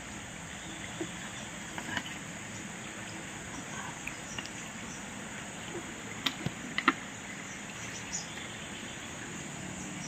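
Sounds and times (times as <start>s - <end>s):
crickets and insects chirping: 0.0s - 10.0s.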